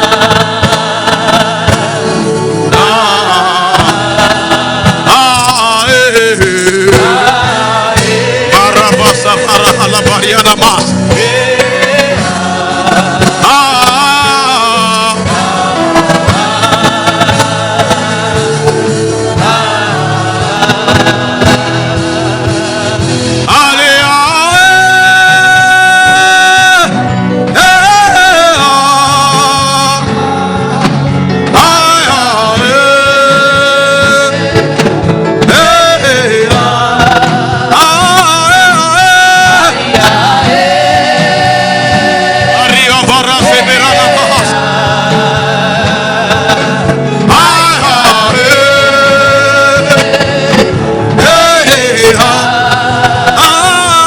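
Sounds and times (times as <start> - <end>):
gospel singing with instruments: 0.0 - 54.0.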